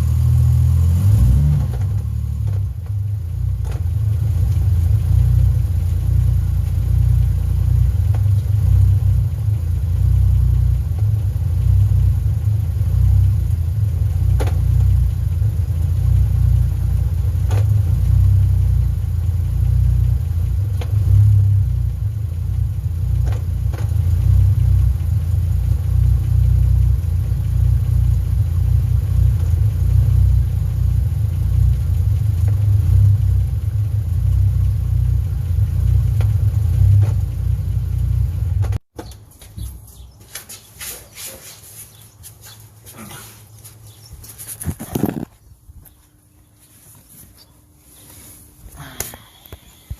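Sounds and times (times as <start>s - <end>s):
car engine low rumble: 0.0s - 49.9s.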